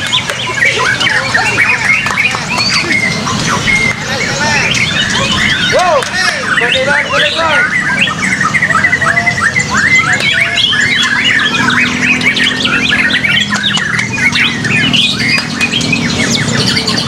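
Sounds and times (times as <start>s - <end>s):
birds singing in chorus: 0.0s - 17.0s.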